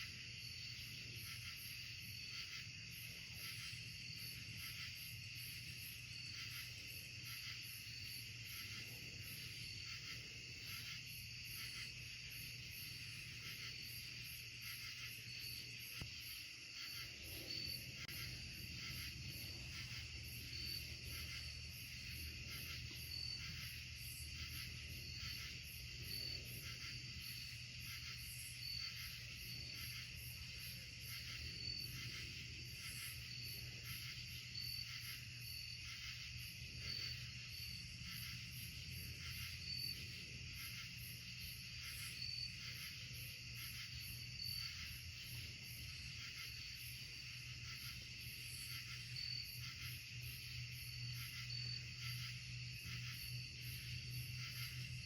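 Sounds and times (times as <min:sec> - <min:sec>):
crickets chirping and trilling: 0:00.0 - 0:55.0.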